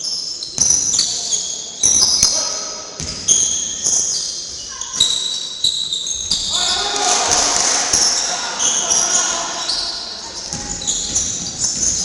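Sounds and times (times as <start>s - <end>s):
sneakers squeaking on floor: 0.0s - 7.0s, 7.9s - 12.0s.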